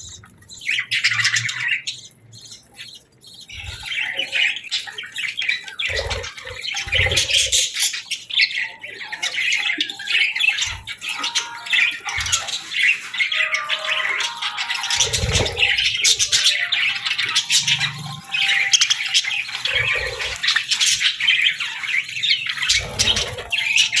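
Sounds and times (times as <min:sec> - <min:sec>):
budgerigars chattering and squawking: 0:00.0 - 0:24.0.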